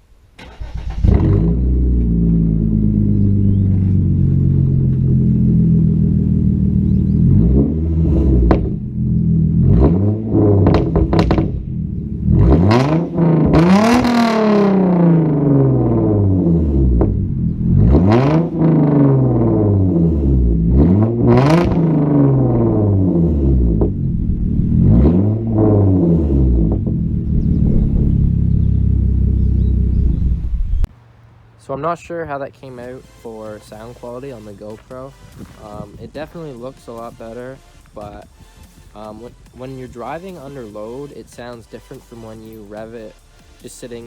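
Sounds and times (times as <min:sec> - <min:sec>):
car exhaust idling: 0:00.0 - 0:44.0
engine revving: 0:00.4 - 0:30.9, 0:31.8 - 0:44.0.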